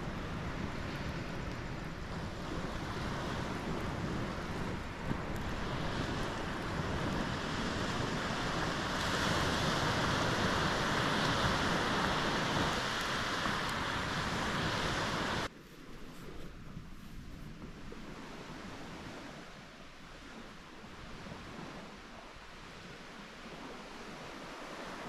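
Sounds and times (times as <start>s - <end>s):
ocean surf washing in: 0.0s - 25.0s
wind on the microphone: 0.0s - 25.0s.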